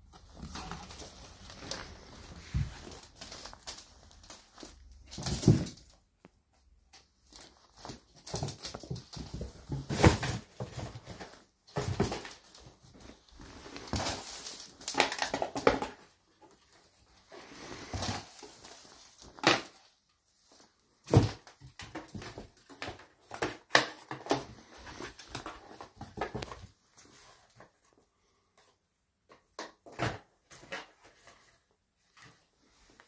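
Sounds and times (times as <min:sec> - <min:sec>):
cardboard rustling and scratching: 0:00.0 - 0:27.9.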